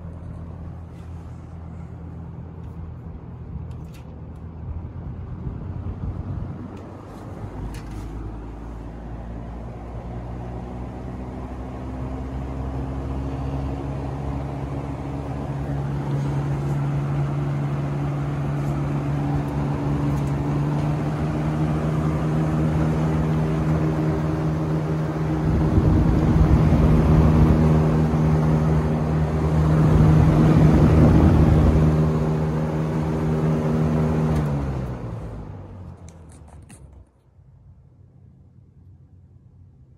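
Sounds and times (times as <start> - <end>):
box fan humming: 0.0 - 35.4.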